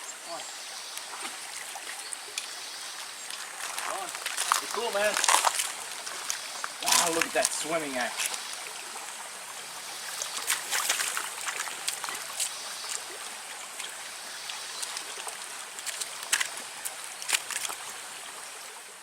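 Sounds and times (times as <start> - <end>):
stream water trickling: 0.0 - 19.0
small water splashes: 0.4 - 18.9.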